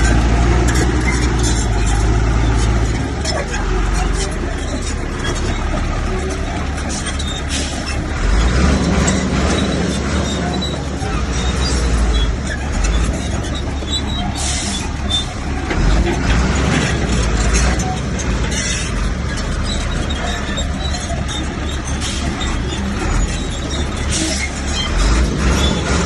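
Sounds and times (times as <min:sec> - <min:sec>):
diesel earthmoving machinery running: 0:00.0 - 0:26.0.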